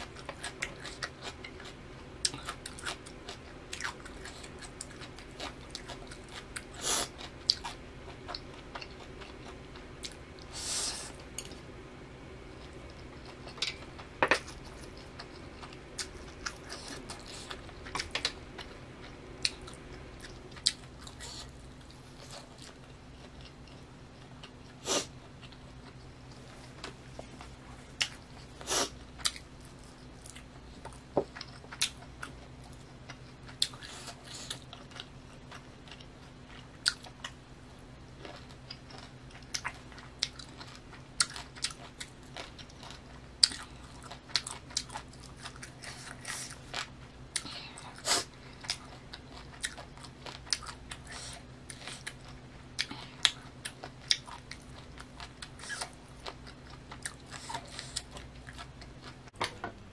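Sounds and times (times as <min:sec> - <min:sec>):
chewing food: 0:00.0 - 0:10.5, 0:12.5 - 0:59.3
faint low hum: 0:00.0 - 0:59.9.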